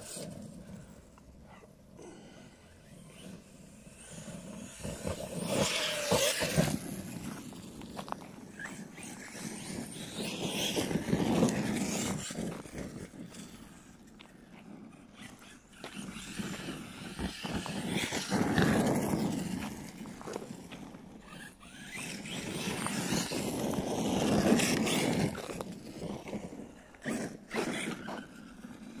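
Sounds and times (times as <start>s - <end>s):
tyres on loose dirt: 0.0s - 29.0s
electric toy truck motor: 1.9s - 29.0s.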